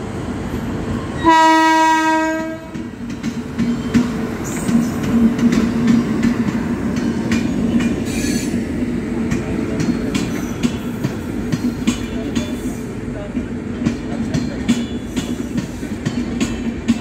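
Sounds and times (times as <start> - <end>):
train passing hum: 0.0 - 17.0.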